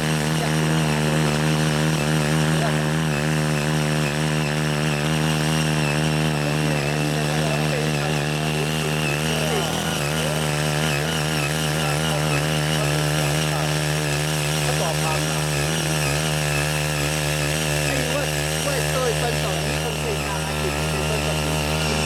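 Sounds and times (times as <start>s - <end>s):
small engine running: 0.0s - 22.0s
tines tilling soil: 0.0s - 22.0s.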